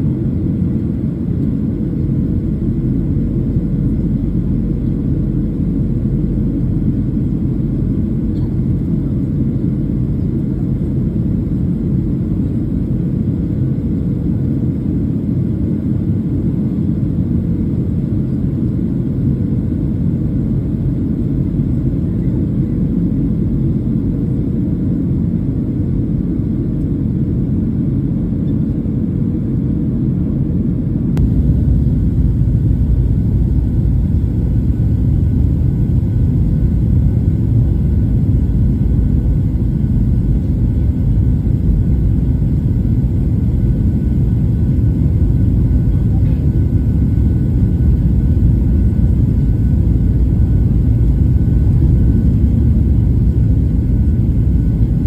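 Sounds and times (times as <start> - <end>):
jet cabin engine rumble: 0.0 - 55.0.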